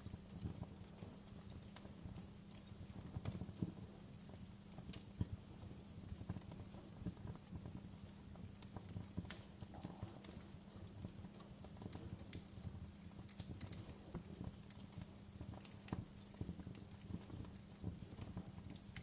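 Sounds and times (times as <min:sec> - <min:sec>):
fire pops and snaps: 0:00.0 - 0:19.0
low rumble of flames: 0:00.0 - 0:19.0
wood fire crackling: 0:00.0 - 0:19.0.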